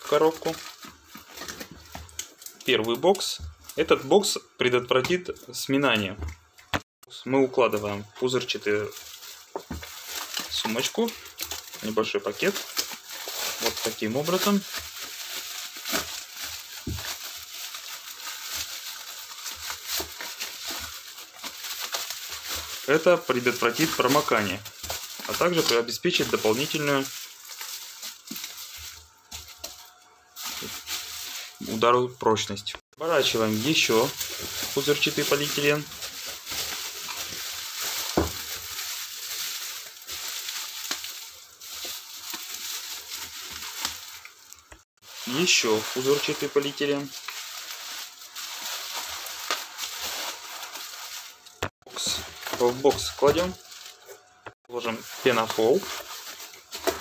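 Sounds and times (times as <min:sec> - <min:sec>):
bubble wrap crinkling: 0:00.0 - 0:06.2, 0:06.8 - 0:32.2, 0:33.0 - 0:57.0.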